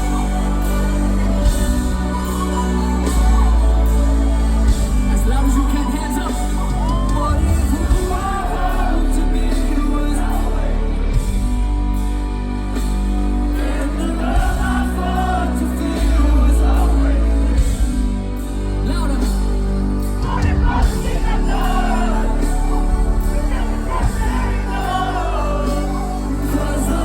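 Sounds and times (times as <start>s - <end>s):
live pop band with heavy bass: 0.0s - 27.0s
person singing: 0.0s - 27.0s.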